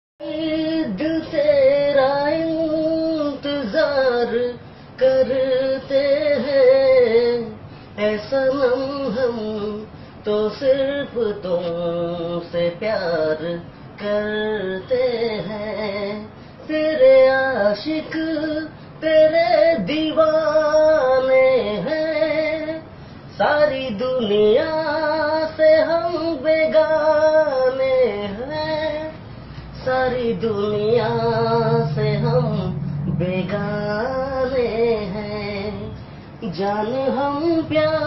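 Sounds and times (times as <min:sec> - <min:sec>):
young man singing: 0:00.2 - 0:38.0.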